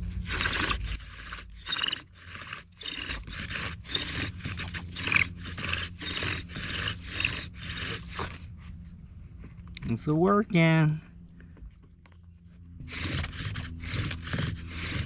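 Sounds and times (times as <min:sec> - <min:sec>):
wooden bow drill grinding and squeaking: 0:00.0 - 0:10.2, 0:11.4 - 0:15.0.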